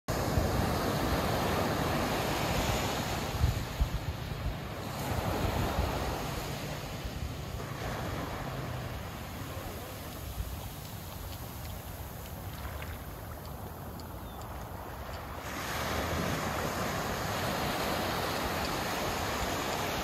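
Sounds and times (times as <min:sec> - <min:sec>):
small waves breaking on beach: 0:00.1 - 0:20.0
wind gusts on microphone: 0:00.1 - 0:20.0.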